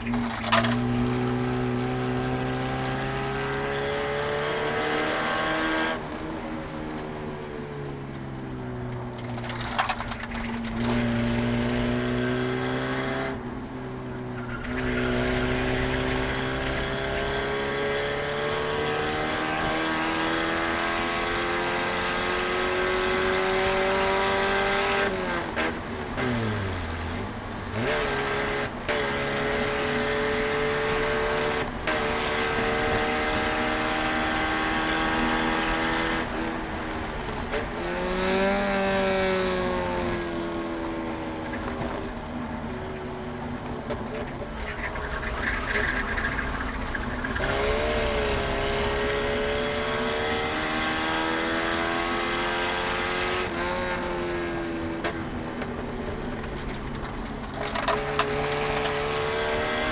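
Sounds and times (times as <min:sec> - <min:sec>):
car engine accelerating hard: 0:00.0 - 0:07.1, 0:07.9 - 0:59.9.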